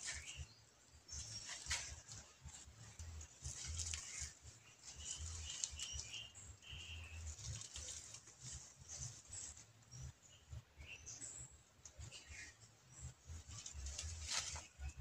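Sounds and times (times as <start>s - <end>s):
rustling in dry leaves: 0.0s - 15.0s.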